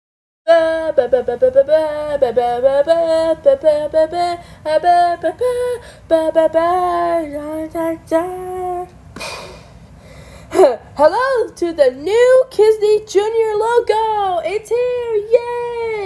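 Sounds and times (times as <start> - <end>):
woman singing a jingle: 0.5 - 8.9, 11.0 - 16.0.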